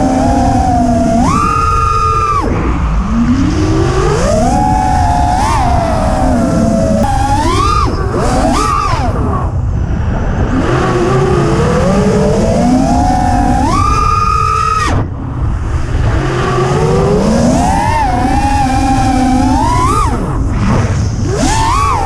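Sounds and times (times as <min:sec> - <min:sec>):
drone motors whining: 0:00.0 - 0:22.0
prop wash and wind rumble: 0:00.0 - 0:22.0.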